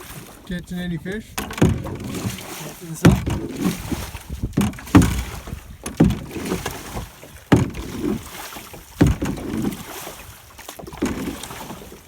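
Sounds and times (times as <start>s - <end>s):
oar knocking: 0.0s - 12.0s
water swirling: 0.0s - 12.0s.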